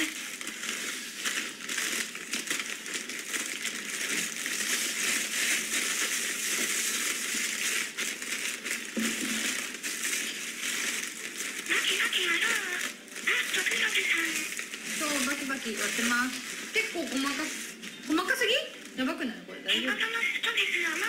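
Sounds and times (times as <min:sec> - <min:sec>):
dry food crunching: 0:00.0 - 0:19.0
plastic bag crinkling: 0:00.0 - 0:19.1, 0:19.8 - 0:21.0.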